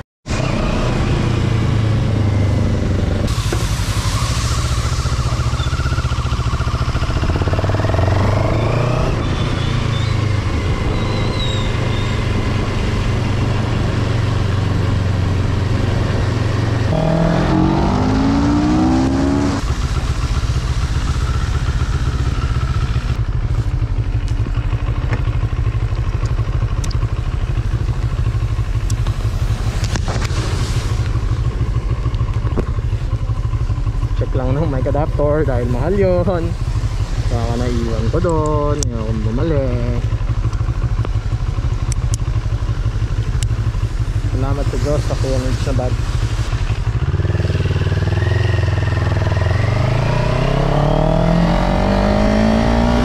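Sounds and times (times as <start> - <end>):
wind and road noise: 0.2 - 53.0
motorcycle engine running: 4.6 - 53.0.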